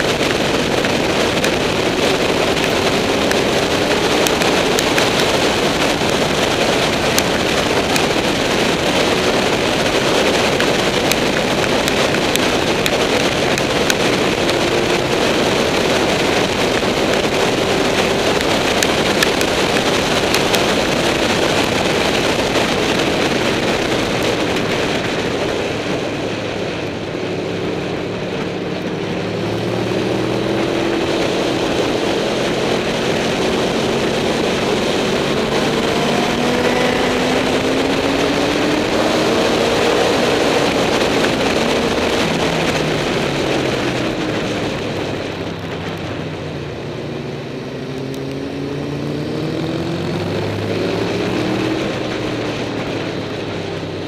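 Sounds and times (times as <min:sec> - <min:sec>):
motorcycle engine: 0:00.0 - 0:54.0
wind rush on microphone: 0:00.0 - 0:54.0.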